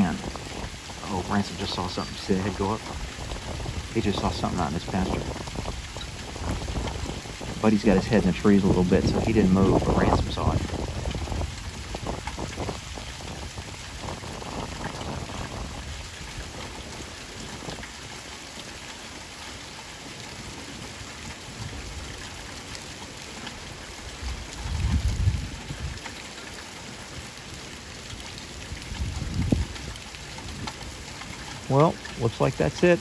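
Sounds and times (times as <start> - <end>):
light rain falling: 0.0 - 33.0.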